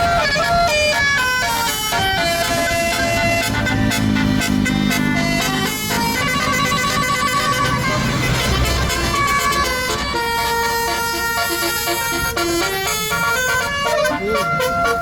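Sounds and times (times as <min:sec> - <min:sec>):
bus engine running: 0:00.0 - 0:15.0
multi-tone bus air horn melody: 0:00.0 - 0:15.0.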